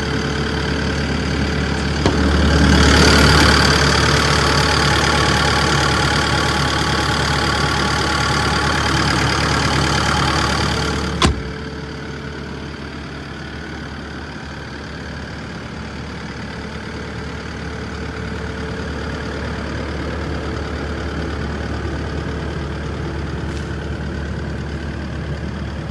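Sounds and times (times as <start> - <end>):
excavator diesel engine idling: 0.0 - 25.9.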